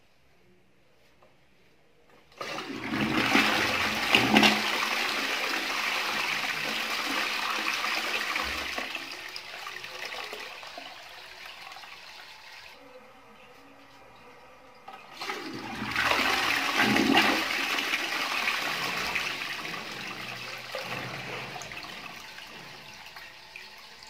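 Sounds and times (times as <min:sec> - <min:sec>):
toilet flushing: 0:02.3 - 0:24.0.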